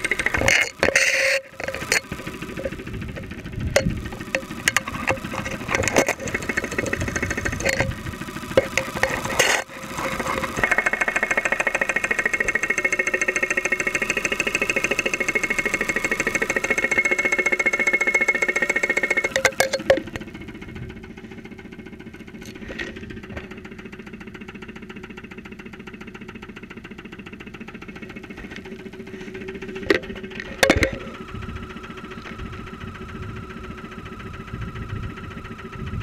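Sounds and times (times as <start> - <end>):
car engine knocking: 0.0 - 36.0.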